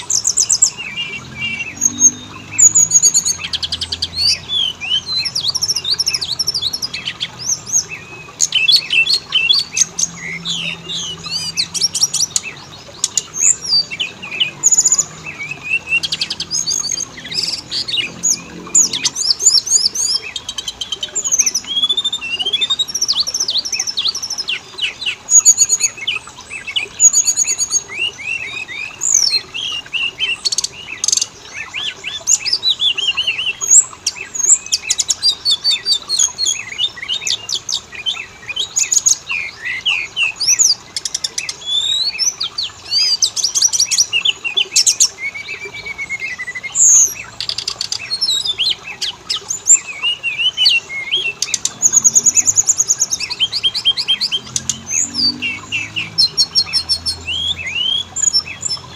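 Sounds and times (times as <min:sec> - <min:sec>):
songbird whistling and trilling: 0:00.0 - 0:58.9.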